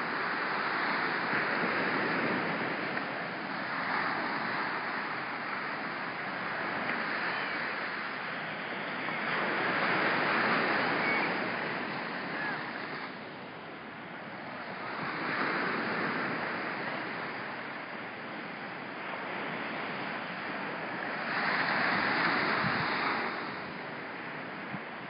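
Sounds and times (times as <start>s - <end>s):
small surf breaking on beach: 0.0s - 25.0s
wind on microphone: 0.0s - 25.0s.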